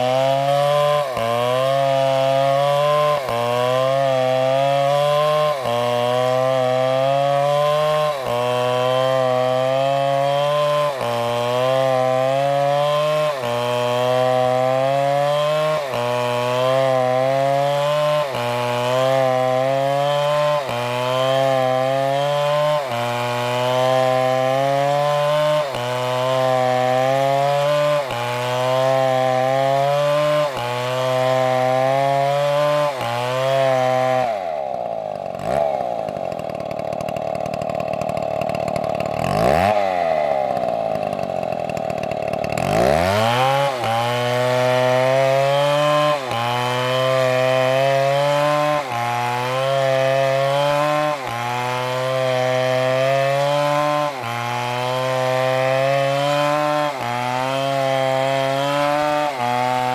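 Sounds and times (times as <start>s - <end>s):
chainsaw cutting tree trunk: 0.0s - 59.9s
chainsaw revving: 0.0s - 59.9s.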